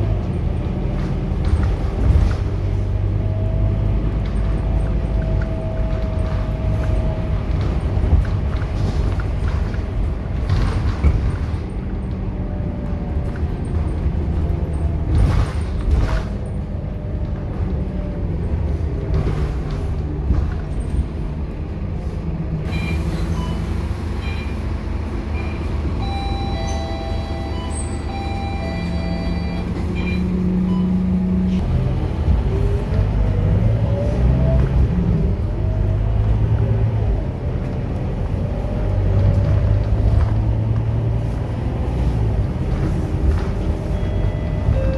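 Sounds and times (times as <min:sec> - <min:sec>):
bus diesel engine rumbling: 0:00.0 - 0:44.9.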